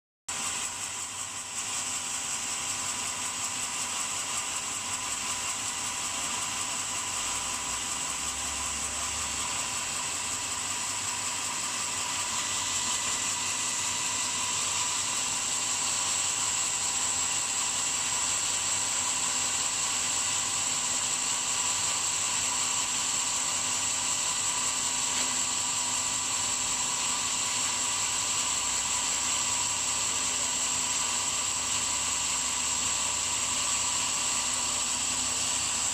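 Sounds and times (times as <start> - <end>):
power saw high whine: 0.3 - 35.9.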